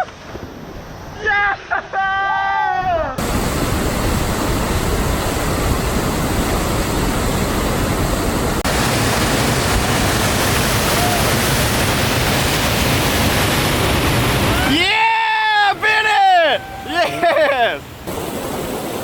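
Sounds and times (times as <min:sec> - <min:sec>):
whitewater rushing: 0:03.2 - 0:19.0.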